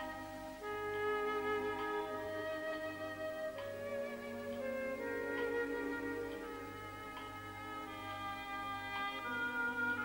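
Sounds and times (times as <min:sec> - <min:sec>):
quiet orchestral music: 0:00.0 - 0:10.0.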